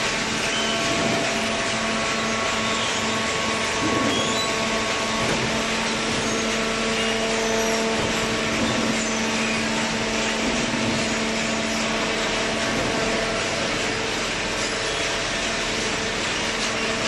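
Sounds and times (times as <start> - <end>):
motor hum: 0.0 - 17.0
shredding machinery running: 0.0 - 17.0.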